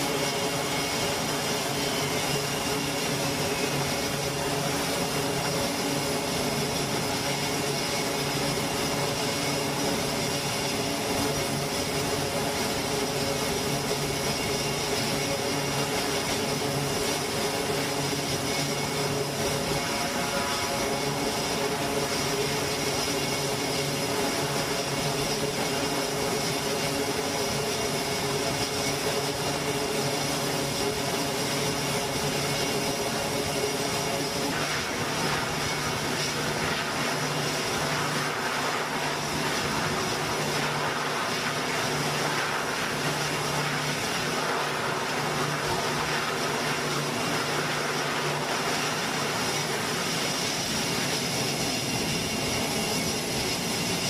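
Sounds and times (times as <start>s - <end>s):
turboprop engines droning: 0.0s - 54.0s.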